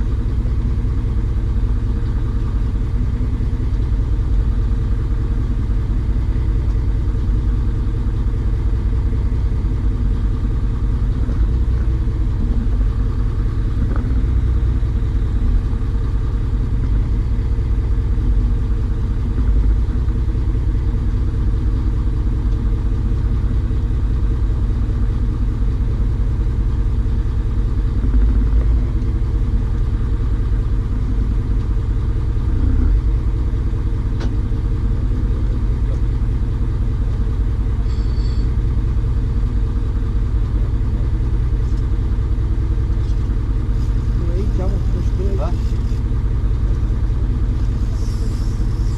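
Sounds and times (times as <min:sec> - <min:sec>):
engine rumbling: 0:00.0 - 0:48.9.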